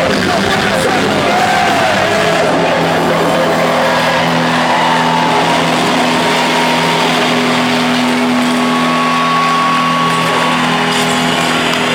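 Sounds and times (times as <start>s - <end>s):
concert crowd noise: 0.0s - 11.9s.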